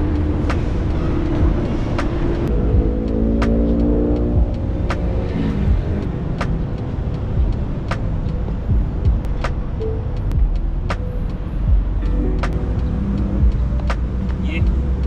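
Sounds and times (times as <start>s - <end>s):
low traffic rumble: 0.0s - 15.0s
vehicle engine accelerating: 0.0s - 15.0s.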